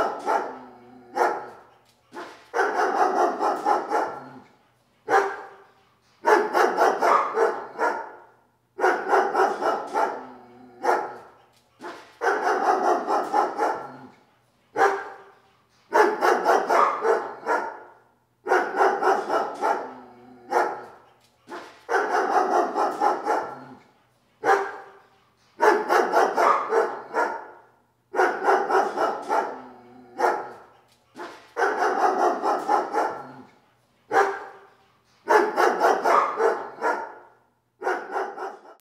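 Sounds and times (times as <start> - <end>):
dog barking: 0.0 - 4.5, 5.1 - 15.3, 15.9 - 23.8, 24.4 - 25.0, 25.6 - 33.5, 34.1 - 38.8.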